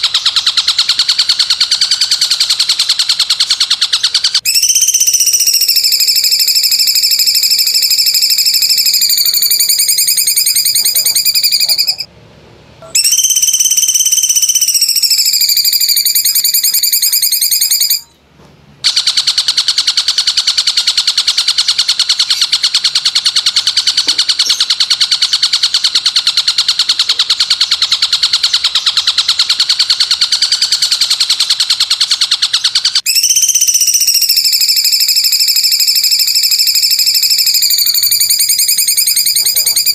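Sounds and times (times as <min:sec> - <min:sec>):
high-pitched bird trill: 0:00.0 - 0:12.1, 0:12.8 - 0:18.2, 0:18.8 - 0:39.9
long even bird trill: 0:00.0 - 0:12.1, 0:12.8 - 0:18.2, 0:18.8 - 0:39.9.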